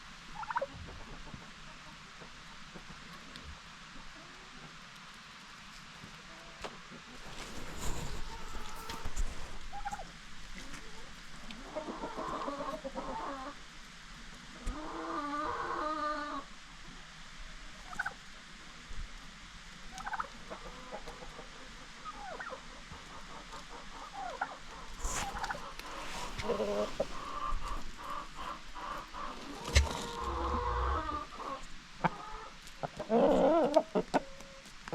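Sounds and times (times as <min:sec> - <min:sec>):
chickens and turkeys clucking: 0:00.3 - 0:04.8, 0:05.7 - 0:13.6, 0:14.5 - 0:17.0, 0:17.7 - 0:18.3, 0:19.8 - 0:34.9.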